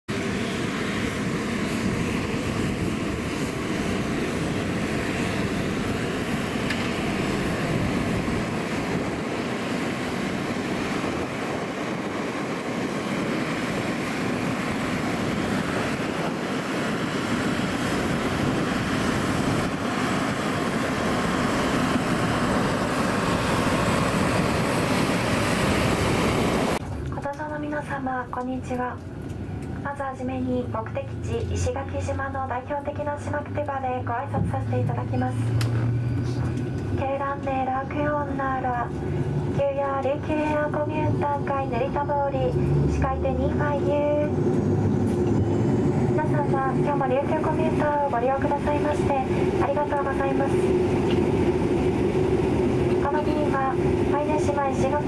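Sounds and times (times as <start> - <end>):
aircraft turbine engine rushing: 0.1 - 55.0.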